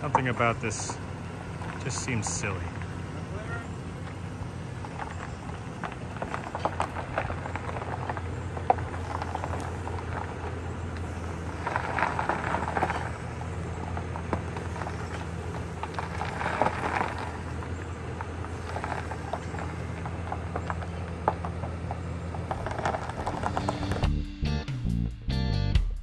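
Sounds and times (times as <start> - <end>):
tyres crunching on gravel: 0.0 - 24.2
truck engine idling: 0.0 - 26.0.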